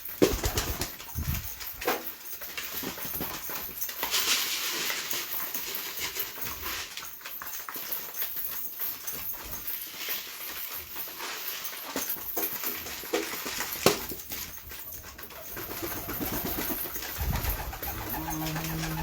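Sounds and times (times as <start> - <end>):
pigeon wings and feet rustling: 0.0 - 19.0.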